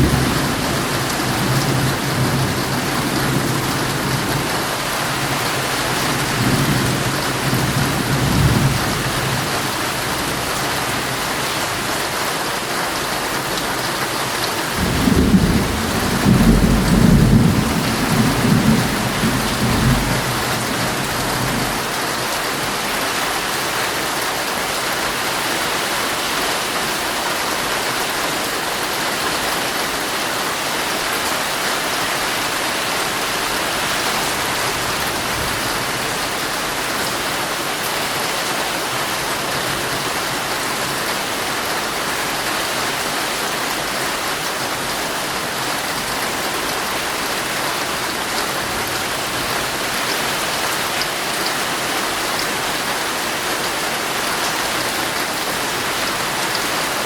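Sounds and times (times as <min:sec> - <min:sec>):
heavy rain on a tent: 0:00.0 - 0:57.0.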